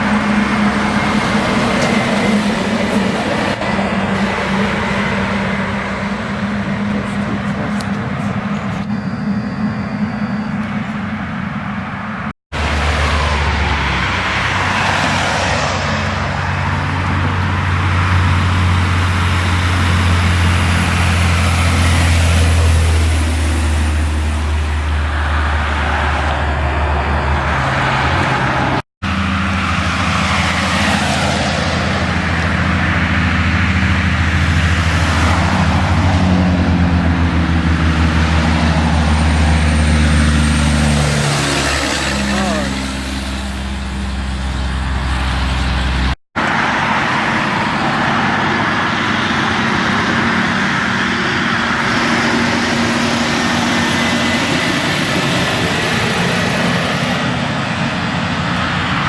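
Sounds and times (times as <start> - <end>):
tyres hissing on road: 0.0 - 8.8, 12.6 - 26.5, 27.4 - 59.0
diesel truck engine drone: 0.0 - 59.0.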